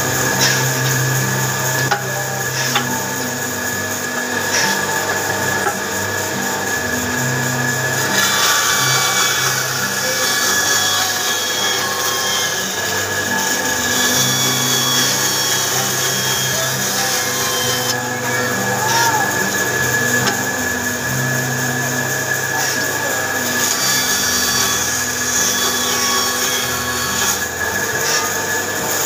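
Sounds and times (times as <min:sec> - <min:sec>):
electric power tool cutting wood: 0:00.0 - 0:29.0.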